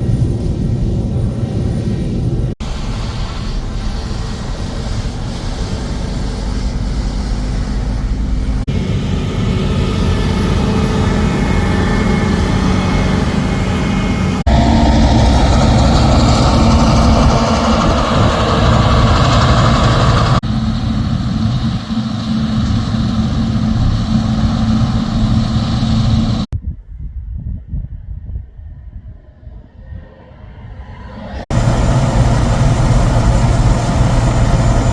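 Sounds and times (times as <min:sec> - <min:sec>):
combine harvester running: 0:00.0 - 0:26.5, 0:31.5 - 0:34.9.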